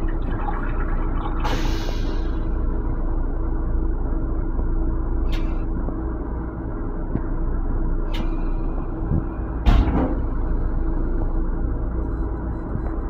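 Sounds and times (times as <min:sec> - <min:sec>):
railcar rumble and hum: 0:00.0 - 0:13.0.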